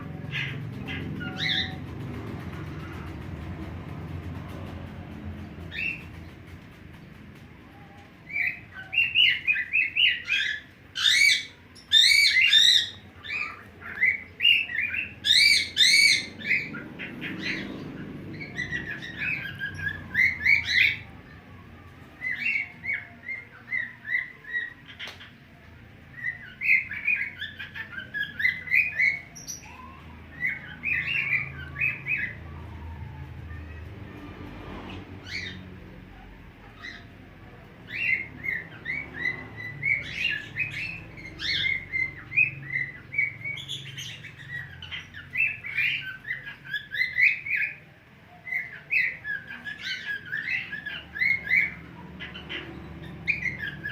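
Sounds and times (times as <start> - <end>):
bird chirping song: 0.0 - 53.9.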